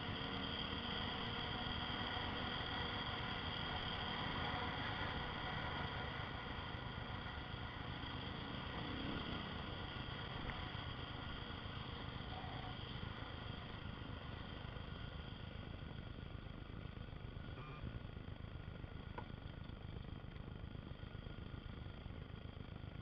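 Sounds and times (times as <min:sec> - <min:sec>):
motorcycle engine running: 0:00.0 - 0:23.0
road rumble: 0:00.0 - 0:23.0.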